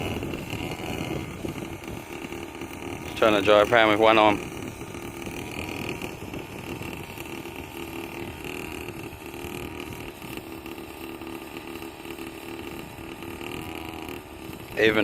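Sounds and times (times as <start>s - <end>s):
small quad bike engine running: 0.0s - 15.0s.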